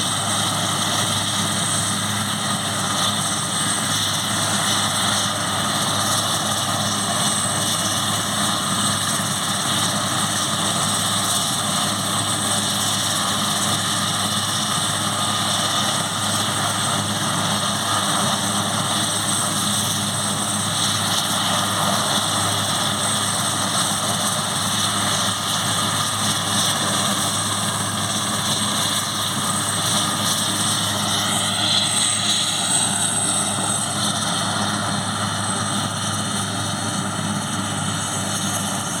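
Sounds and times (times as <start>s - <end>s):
helicopter rotor noise: 0.0s - 39.0s
helicopter turbine whine: 0.0s - 39.0s.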